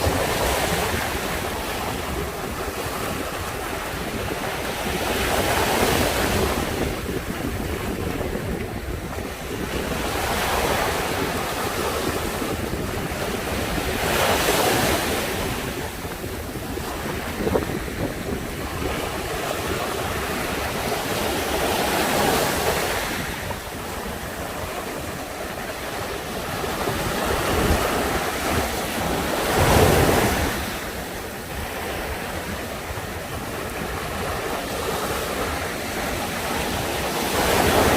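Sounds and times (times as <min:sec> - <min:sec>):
waves breaking on shore: 0:00.0 - 0:37.9
wind buffeting microphone: 0:00.0 - 0:37.9.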